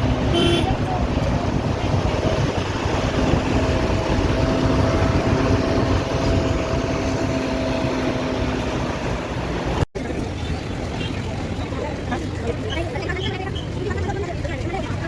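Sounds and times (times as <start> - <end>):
engine rumble: 0.0 - 15.0.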